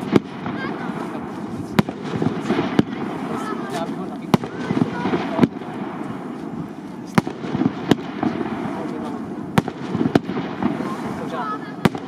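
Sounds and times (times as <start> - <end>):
fireworks bangs: 0.0 - 12.0
fireworks rumble and crackle: 0.0 - 12.0.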